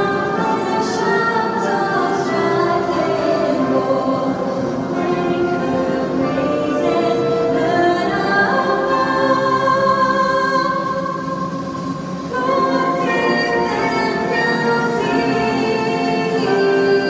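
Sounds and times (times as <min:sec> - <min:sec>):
person singing with music: 0:00.0 - 0:17.0.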